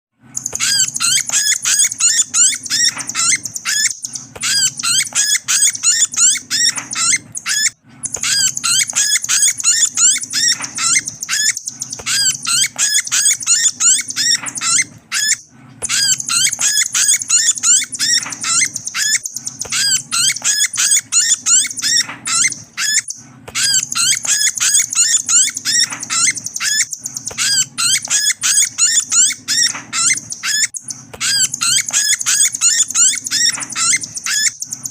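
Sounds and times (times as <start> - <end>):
recorded nuthatch call: 0.4 - 34.9.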